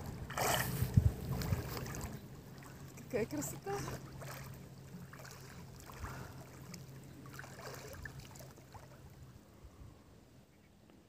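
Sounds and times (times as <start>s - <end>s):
swimmer splashing water: 0.0s - 9.2s.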